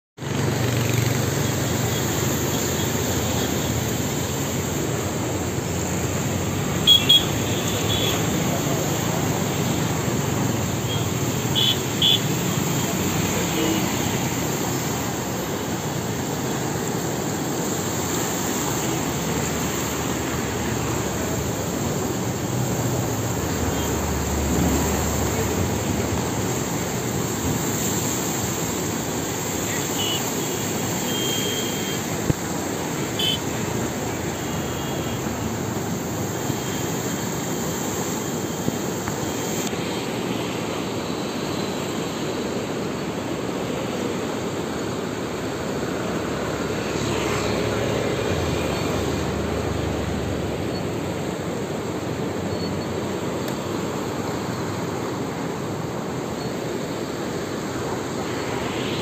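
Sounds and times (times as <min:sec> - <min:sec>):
river rushing: 0:00.2 - 0:59.0.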